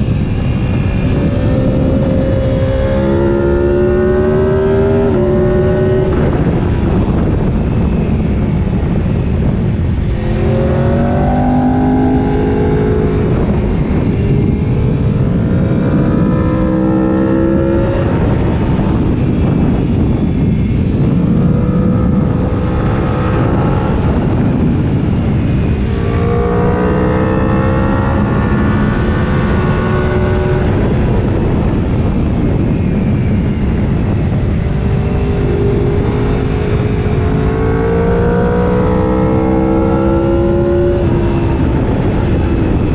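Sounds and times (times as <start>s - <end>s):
heavy wind rush: 0.0s - 42.9s
motorcycle engine accelerating: 0.0s - 42.9s.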